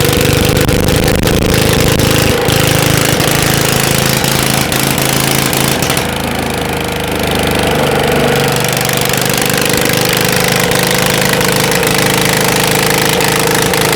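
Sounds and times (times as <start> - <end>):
engine running steadily: 0.0 - 13.9.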